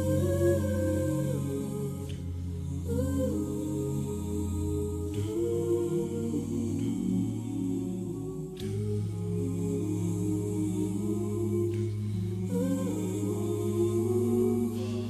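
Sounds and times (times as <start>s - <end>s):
low drone: 0.0s - 15.0s.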